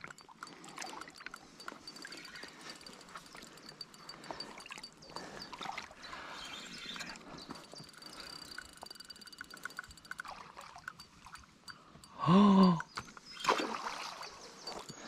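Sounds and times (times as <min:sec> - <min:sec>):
small clicks: 0:00.0 - 0:05.6, 0:06.5 - 0:13.6
faint water lapping: 0:00.0 - 0:15.0.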